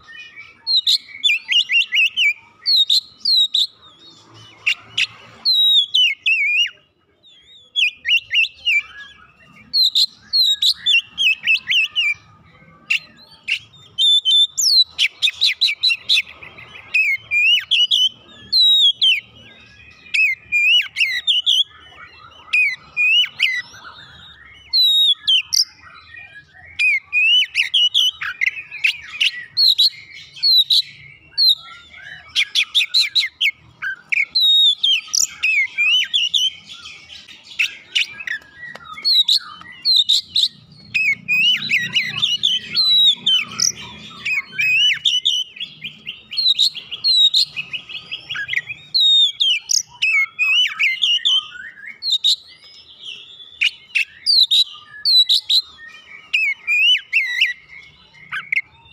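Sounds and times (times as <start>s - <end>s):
bird singing whistled notes: 0.0s - 58.9s.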